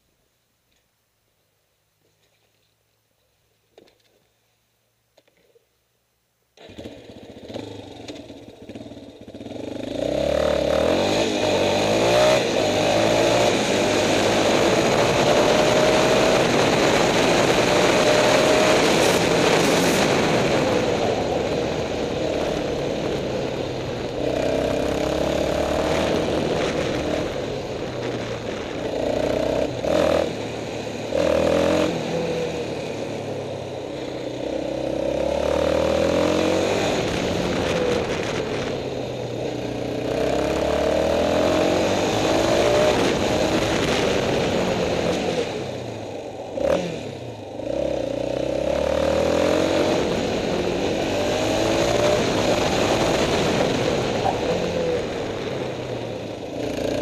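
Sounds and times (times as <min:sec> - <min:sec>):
atv engine revving: 0:06.6 - 0:57.0.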